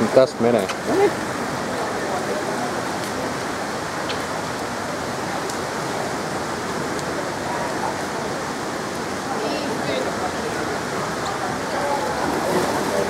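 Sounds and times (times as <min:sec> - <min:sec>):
rushing water in pool hall: 0:00.0 - 0:13.0.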